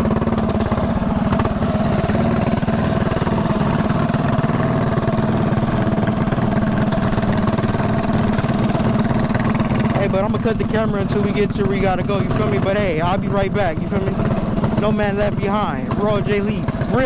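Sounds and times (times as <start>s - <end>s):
mini bike engine running: 0.0s - 17.0s.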